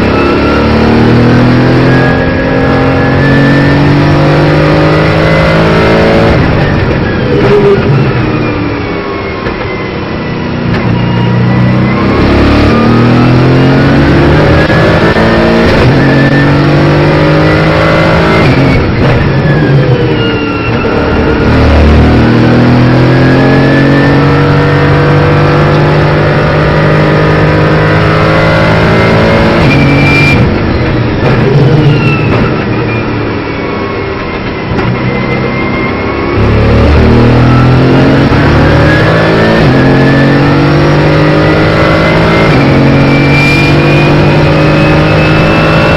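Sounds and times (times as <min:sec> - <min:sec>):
race car engine revving: 0:00.0 - 0:08.5, 0:10.3 - 0:45.9.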